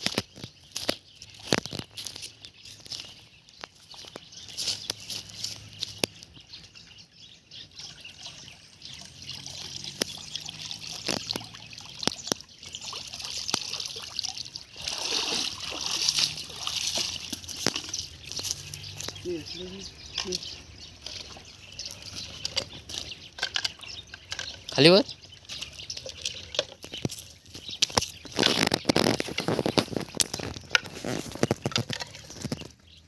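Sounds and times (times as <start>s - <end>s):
water trickling and splashing: 0.0s - 33.0s.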